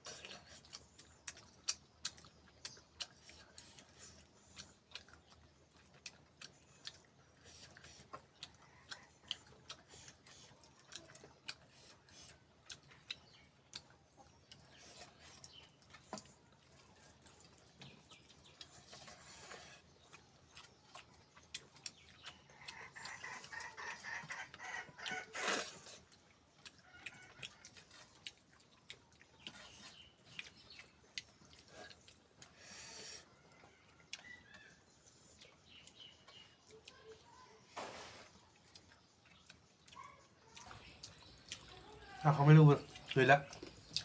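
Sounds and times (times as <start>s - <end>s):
wet chewing clicks and smacks: 0.0s - 37.7s, 38.3s - 44.0s.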